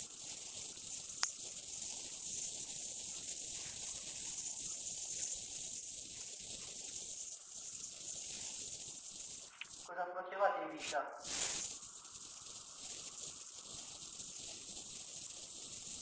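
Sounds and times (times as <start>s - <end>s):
recording hiss: 0.0s - 16.0s.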